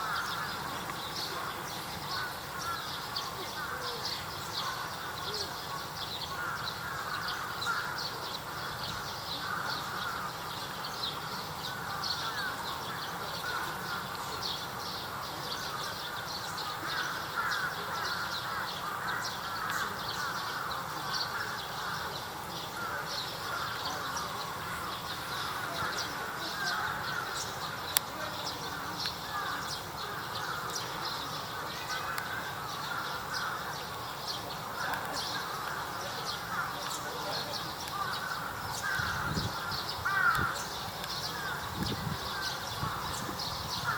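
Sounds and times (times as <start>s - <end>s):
crows cawing: 0.0s - 5.4s, 6.2s - 14.2s, 15.6s - 43.9s
birds calling: 0.0s - 43.9s.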